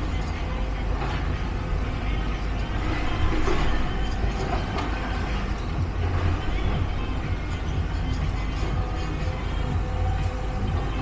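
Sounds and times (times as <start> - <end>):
low mechanical rumble: 0.0 - 11.0
outdoor street noise: 0.0 - 11.0.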